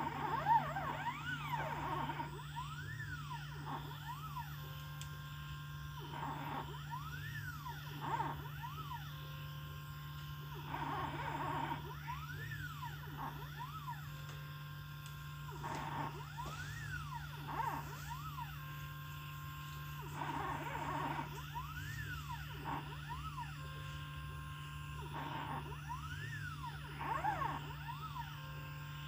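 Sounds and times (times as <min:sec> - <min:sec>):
steady low hum: 0:00.0 - 0:29.0
stepper motors whining: 0:00.0 - 0:29.0.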